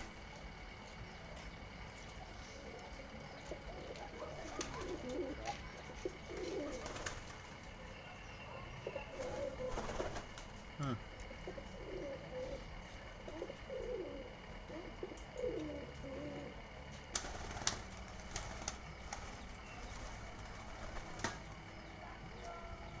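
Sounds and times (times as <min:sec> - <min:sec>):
pigeons cooing: 0:01.6 - 0:23.0.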